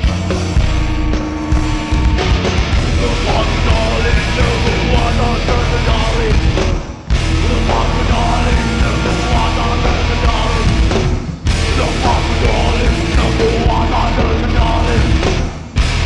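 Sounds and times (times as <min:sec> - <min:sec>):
band playing heavy music live: 0:00.0 - 0:16.0.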